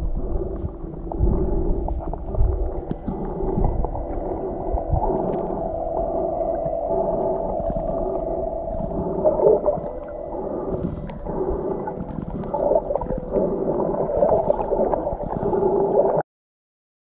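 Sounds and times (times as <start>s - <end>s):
muffled underwater churning water: 0.0s - 16.2s.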